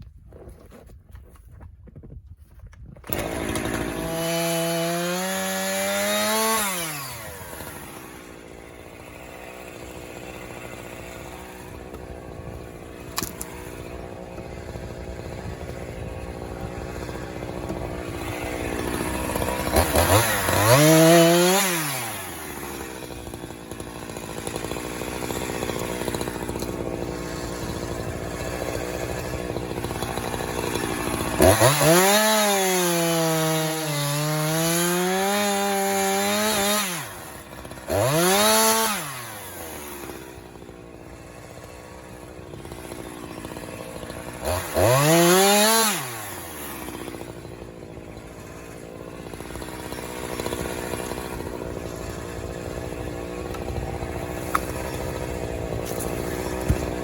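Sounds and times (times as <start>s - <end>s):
chainsaw cutting wood: 3.0s - 57.0s.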